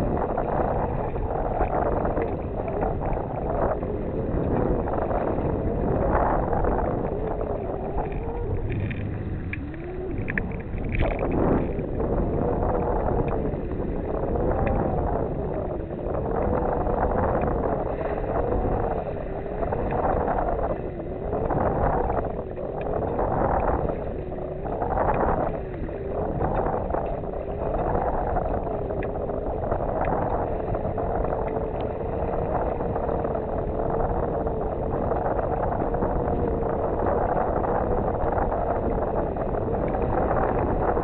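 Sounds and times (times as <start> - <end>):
wavering hum: 0.0 - 41.0
wind buffeting microphone: 0.0 - 41.0.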